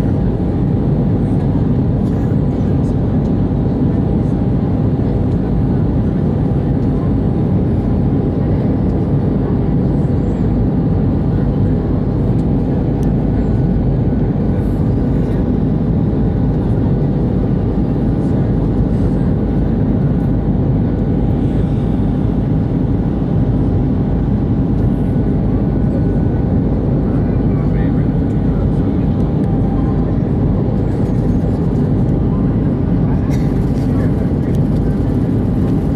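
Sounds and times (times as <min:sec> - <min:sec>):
airplane cabin rumble: 0:00.0 - 0:35.9.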